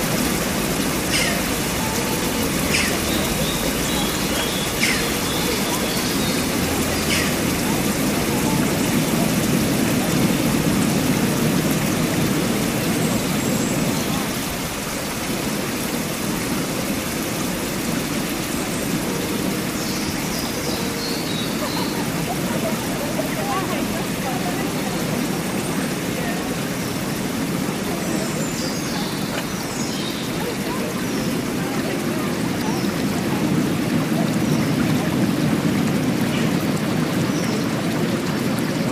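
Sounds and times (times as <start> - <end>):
surf washing over rocks: 0.0 - 38.9
water splashes: 0.0 - 38.9.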